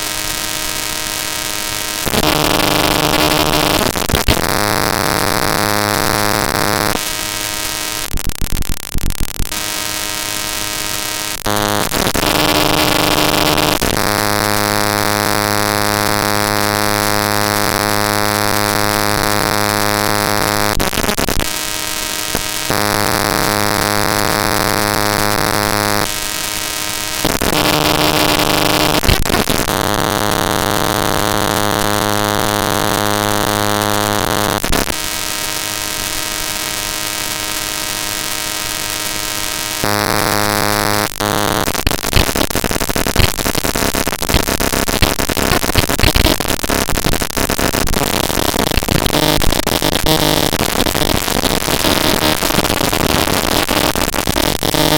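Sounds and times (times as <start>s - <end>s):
dense digital crackling: 0.0s - 54.9s
harsh digital buzzing drones: 0.0s - 54.9s.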